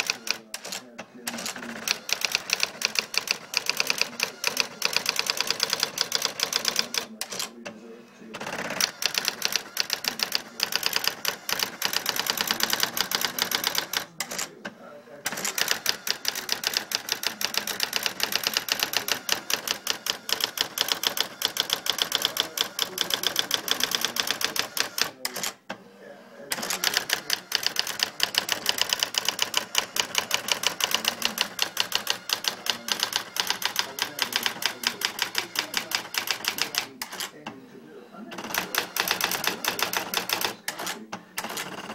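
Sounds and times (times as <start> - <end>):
electronic typewriter printing: 0.0 - 25.8, 26.4 - 37.5, 38.3 - 41.9.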